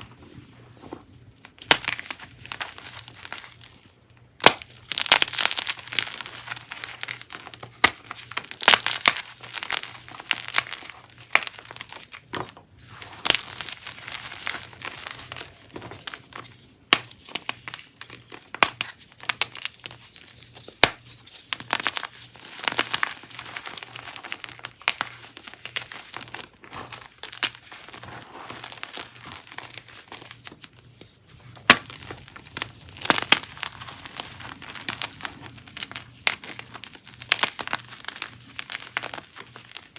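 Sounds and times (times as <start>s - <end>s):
chalk crumbling by hand: 0.1s - 39.9s.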